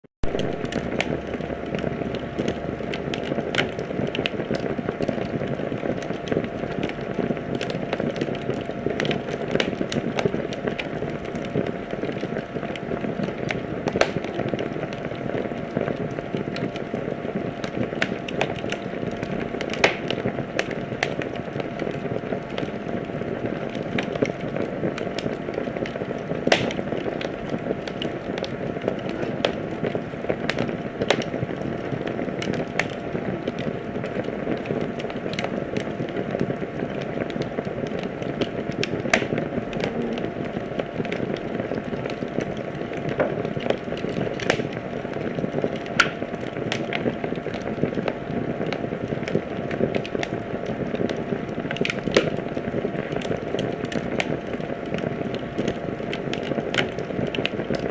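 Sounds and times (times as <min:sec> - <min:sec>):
fire crackling and popping: 0:00.2 - 0:57.9
wood fire burning: 0:00.2 - 0:57.9.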